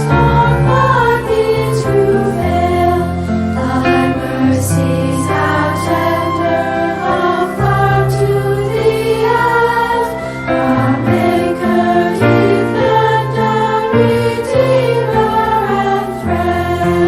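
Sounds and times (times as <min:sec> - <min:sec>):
children's song sung in chorus: 0:00.0 - 0:17.0
instrumental accompaniment: 0:00.0 - 0:17.0.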